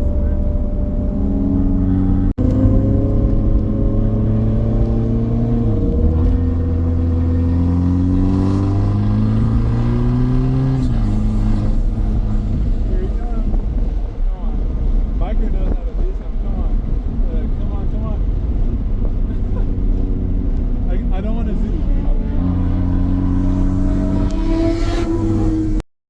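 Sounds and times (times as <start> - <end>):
car engine accelerating hard: 0.0 - 25.8.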